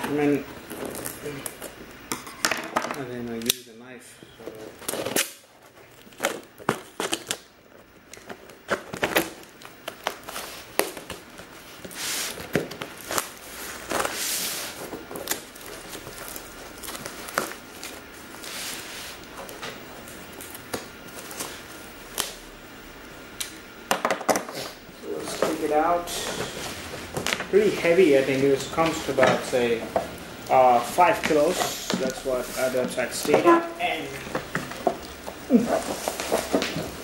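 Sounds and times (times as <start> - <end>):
plastic wrapping rustling: 0.0 - 2.1, 4.4 - 37.0.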